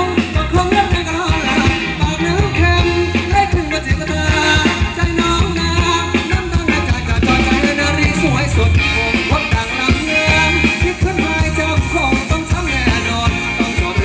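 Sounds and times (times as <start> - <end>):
band playing dance music: 0.0 - 14.0
person singing: 0.0 - 14.0
steady drum beat: 0.0 - 14.0.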